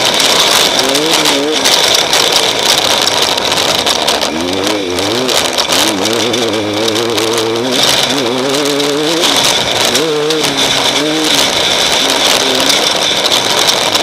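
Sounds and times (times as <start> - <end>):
knocks and rattles: 0.0 - 14.0
off-road vehicle engine revving: 0.0 - 14.0
wind and road noise: 0.0 - 14.0.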